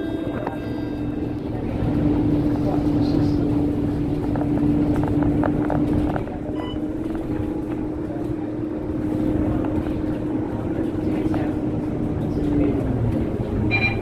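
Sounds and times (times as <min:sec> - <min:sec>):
bus drivetrain whine: 0:00.0 - 0:14.0
low road rumble: 0:00.0 - 0:14.0.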